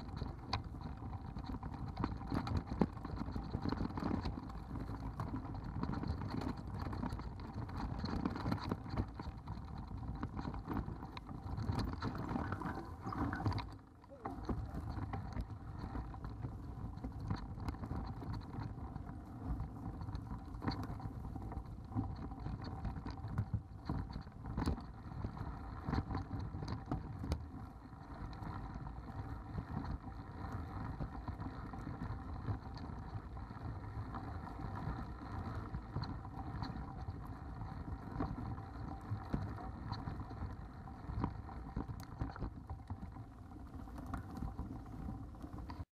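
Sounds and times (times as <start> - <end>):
bike rattling and knocking: 0.0 - 39.6.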